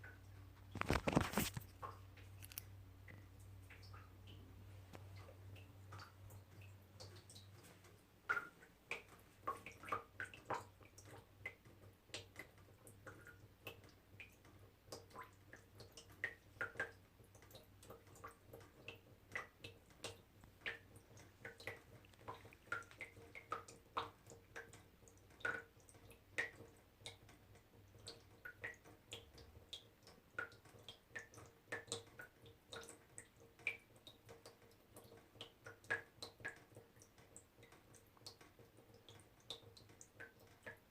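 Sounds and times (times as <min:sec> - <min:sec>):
water droplets dripping into water: 0:00.0 - 0:01.0, 0:01.7 - 0:40.9.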